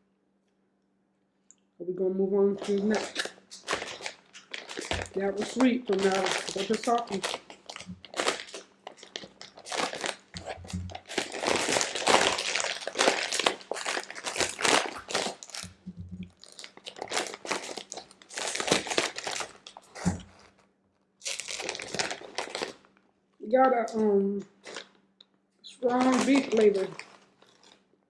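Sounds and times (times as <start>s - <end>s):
plastic packet crinkling: 2.6s - 20.6s, 21.2s - 23.0s, 23.6s - 25.0s, 25.8s - 27.9s.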